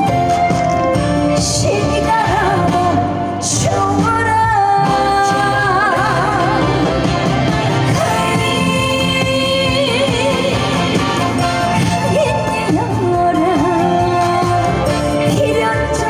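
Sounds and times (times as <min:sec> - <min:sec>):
amplified backing music: 0:00.0 - 0:16.0
woman singing with vibrato: 0:01.4 - 0:16.0.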